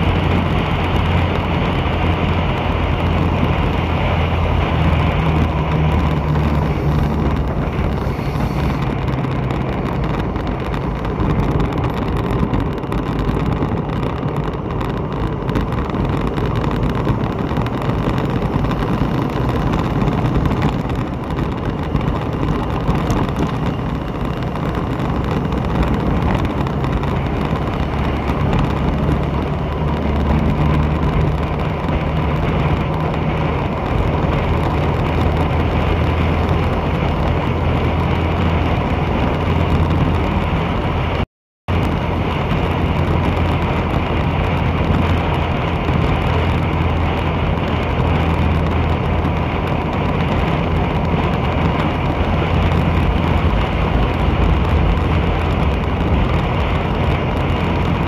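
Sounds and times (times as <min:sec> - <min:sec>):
vehicle engine running: 0:00.0 - 0:58.0
wind and road noise: 0:00.0 - 0:58.0.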